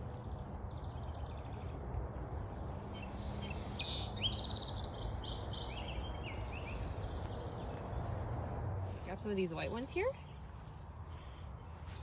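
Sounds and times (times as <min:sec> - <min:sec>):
songbird chirping song: 0:00.0 - 0:12.0.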